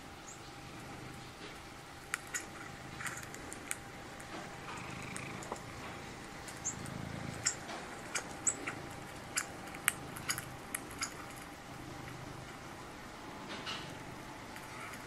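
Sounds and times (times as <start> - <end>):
cat purring: 0.5 - 15.0.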